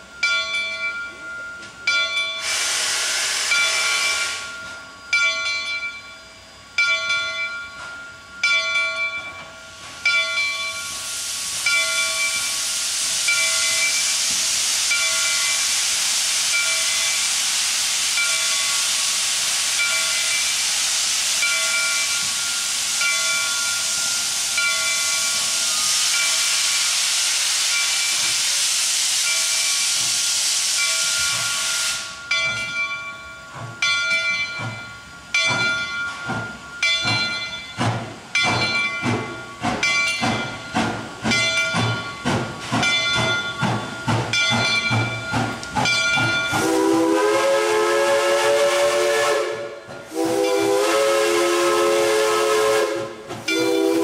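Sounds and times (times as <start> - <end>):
locomotive bell ringing: 0.0 - 2.6, 3.5 - 15.8, 16.5 - 17.3, 18.1 - 19.1, 19.7 - 20.7, 21.4 - 26.9, 30.8 - 54.0
steam hissing: 1.7 - 54.0.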